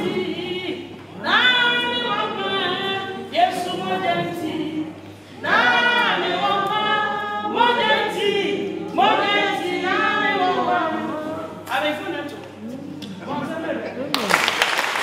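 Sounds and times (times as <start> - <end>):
congregation singing unaccompanied: 0.0 - 12.3.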